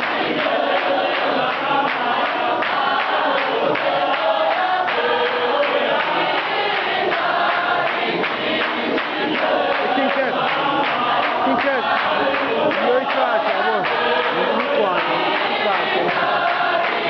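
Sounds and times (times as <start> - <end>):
clapping and tapping: 0.0 - 17.0
gospel choir singing: 0.0 - 17.0.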